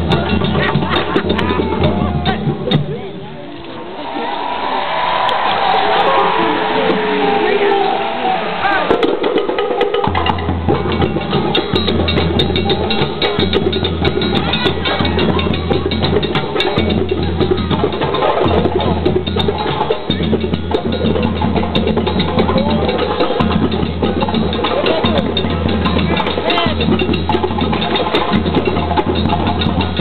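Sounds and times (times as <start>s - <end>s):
djembe drums slapping: 0.0s - 3.0s, 5.6s - 30.0s.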